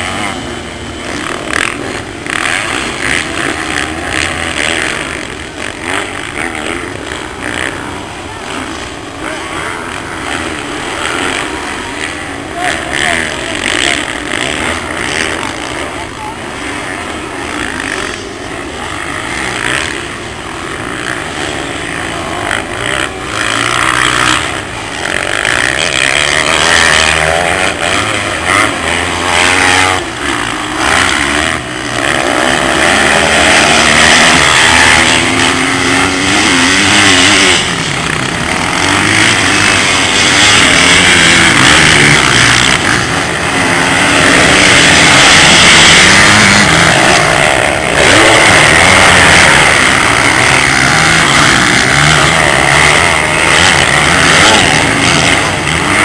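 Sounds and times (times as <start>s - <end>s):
dirt bikes revving: 0.0s - 56.0s.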